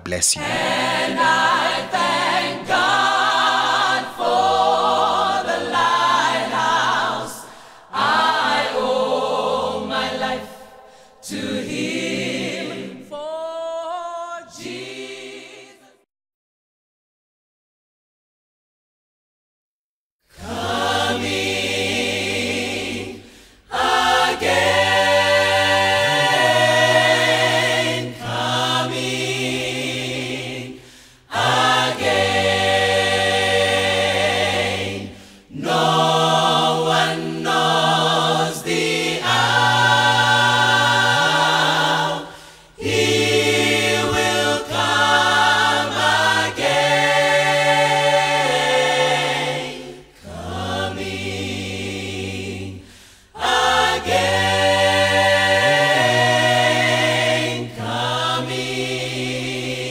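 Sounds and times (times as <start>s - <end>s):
gospel choir singing: 0.0s - 16.1s, 20.3s - 59.9s.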